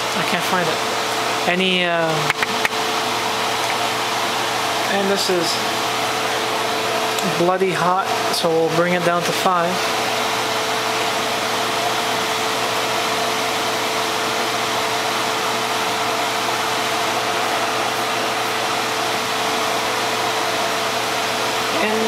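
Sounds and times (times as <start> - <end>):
fan whirring: 0.0 - 22.0.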